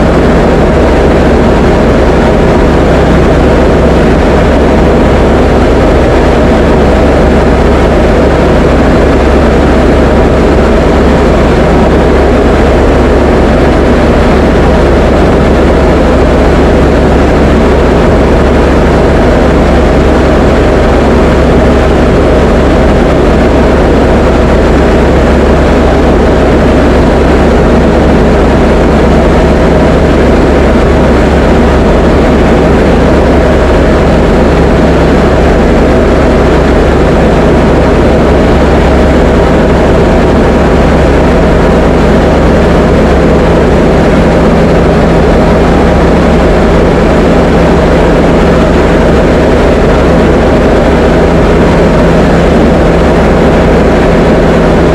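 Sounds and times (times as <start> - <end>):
aircraft engine drone: 0.0 - 54.9.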